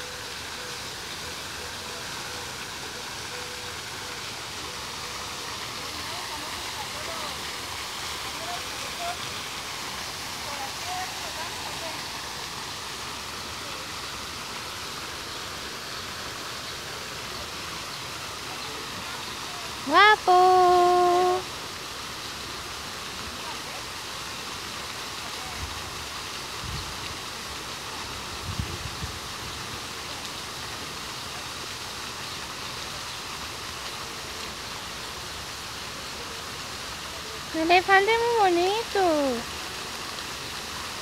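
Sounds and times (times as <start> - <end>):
waterfall rushing into pond: 0.0 - 41.0.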